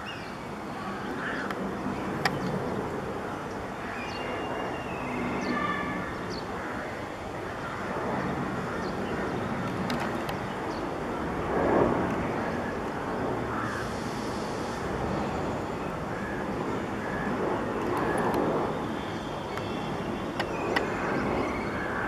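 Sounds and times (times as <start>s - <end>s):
jet engines rumbling: 0.0s - 22.0s
urban traffic noise: 0.0s - 22.0s.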